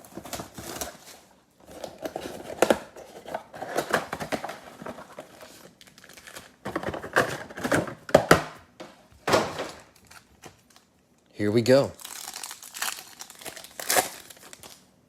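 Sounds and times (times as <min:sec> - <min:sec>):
plastic wrapping crinkling and tearing: 0:00.0 - 0:07.8, 0:09.8 - 0:11.0, 0:12.0 - 0:15.0.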